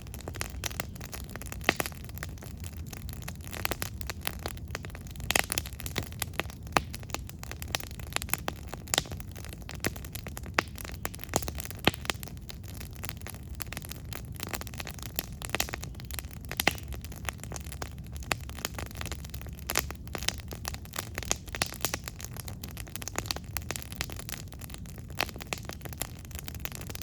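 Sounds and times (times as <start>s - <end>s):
burning wood crackling: 0.0s - 27.0s.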